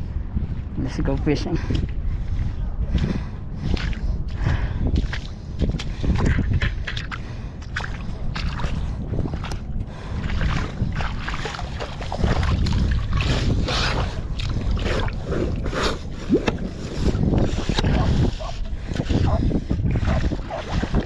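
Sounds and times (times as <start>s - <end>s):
wind rumbling on microphone: 0.0s - 21.0s
water splashing and sloshing: 0.2s - 21.0s.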